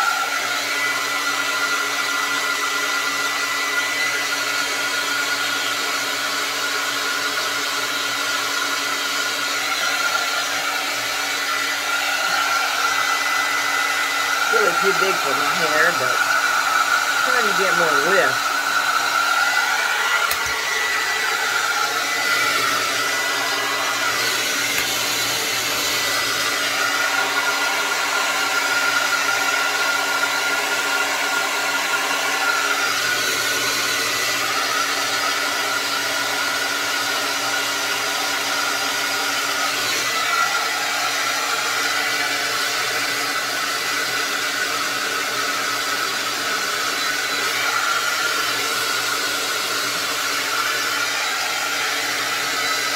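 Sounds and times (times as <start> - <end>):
hair dryer running: 0.0 - 52.9.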